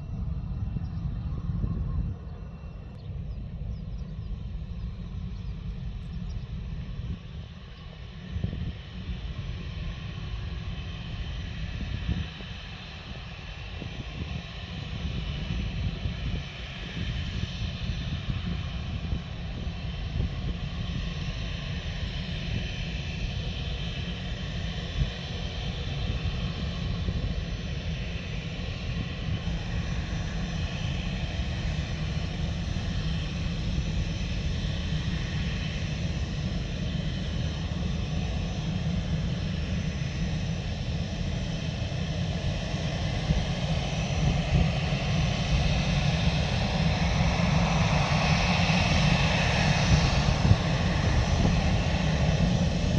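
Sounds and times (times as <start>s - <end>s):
airliner engines rumbling: 0.0s - 52.9s.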